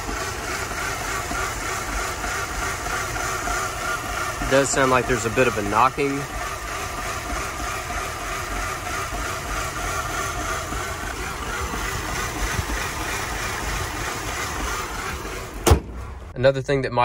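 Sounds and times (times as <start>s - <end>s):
engine knocking: 0.0s - 15.7s
car engine idling roughly: 0.0s - 16.4s.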